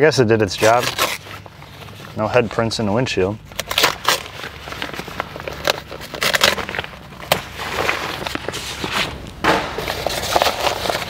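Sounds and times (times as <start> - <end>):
rustling and scraping: 0.4 - 2.9, 3.6 - 11.0.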